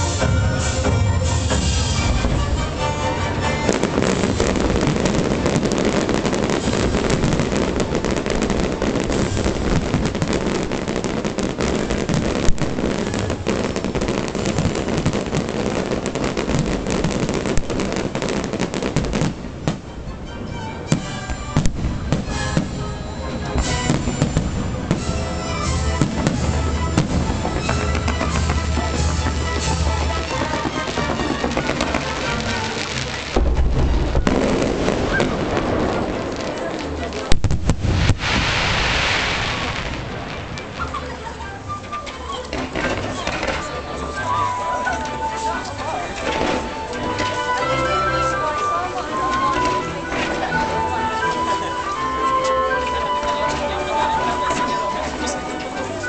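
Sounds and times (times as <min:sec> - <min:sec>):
firework bangs: 0:00.0 - 0:20.0, 0:20.9 - 0:48.6
music: 0:00.0 - 0:37.2, 0:40.5 - 0:56.0
fireworks crackling and popping: 0:00.0 - 0:56.0.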